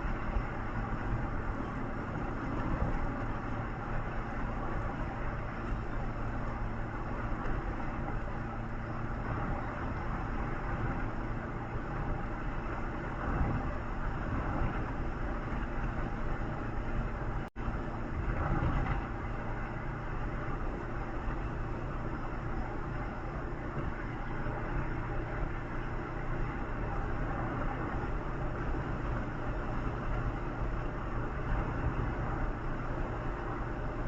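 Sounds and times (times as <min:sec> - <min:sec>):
tyre and road noise: 0:00.0 - 0:34.0
vehicle engine hum: 0:00.0 - 0:34.0.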